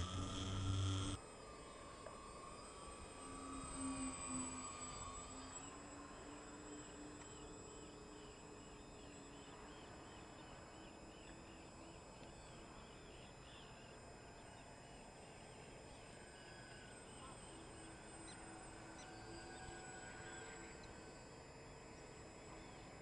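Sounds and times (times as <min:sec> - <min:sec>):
distant electric motor hum: 0:00.0 - 0:23.0.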